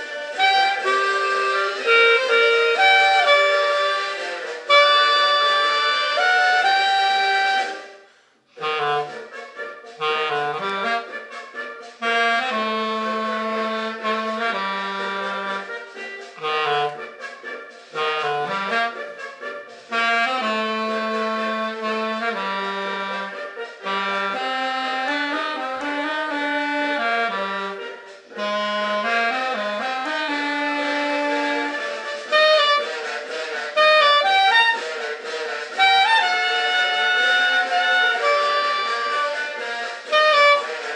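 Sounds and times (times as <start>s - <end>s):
accordion playing a tune: 0.0s - 40.9s.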